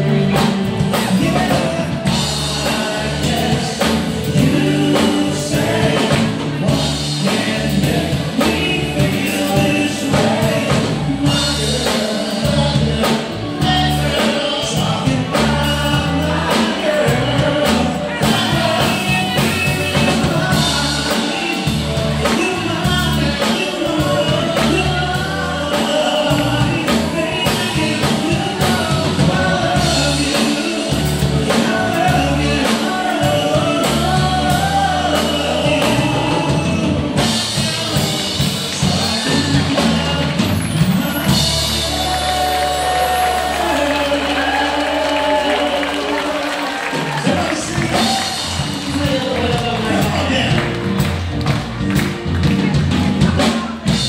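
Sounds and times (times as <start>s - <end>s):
person singing: 0.0s - 51.1s
bass line: 0.0s - 54.0s
drums: 0.0s - 54.0s.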